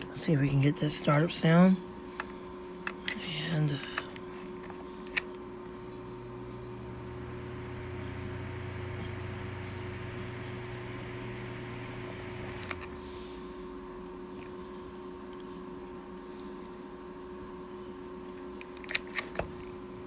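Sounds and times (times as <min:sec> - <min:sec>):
table fan motor hum: 0:00.0 - 0:20.0.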